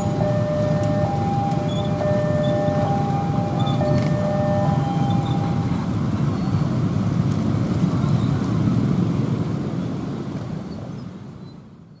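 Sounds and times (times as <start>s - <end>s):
passing vehicles rumbling: 0.0s - 11.9s.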